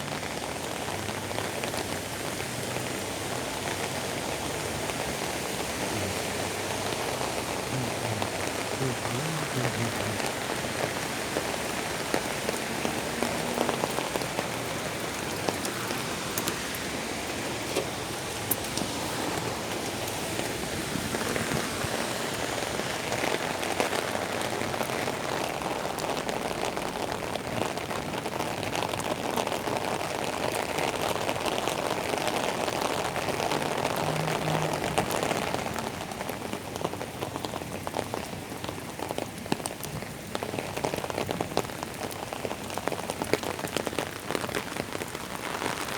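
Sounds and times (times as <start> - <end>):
raindrops ticking: 0.0 - 45.9
steady rain falling: 0.0 - 45.9.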